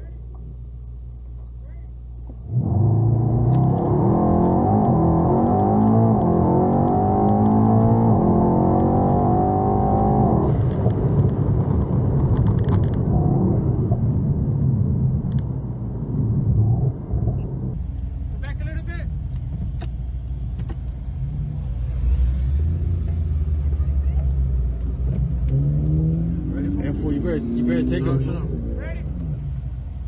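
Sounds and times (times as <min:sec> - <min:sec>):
car engine accelerating: 0:02.1 - 0:18.4, 0:19.3 - 0:30.0.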